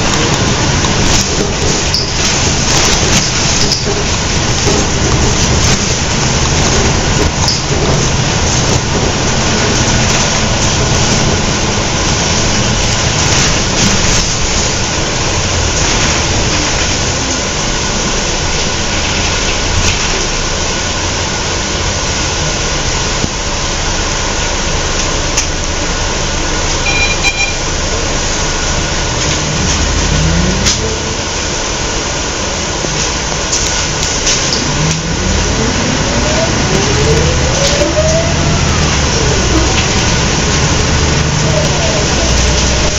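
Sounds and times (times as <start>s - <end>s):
road and body noise: 0.0s - 26.8s, 27.6s - 42.9s
bus diesel engine running: 0.0s - 42.9s.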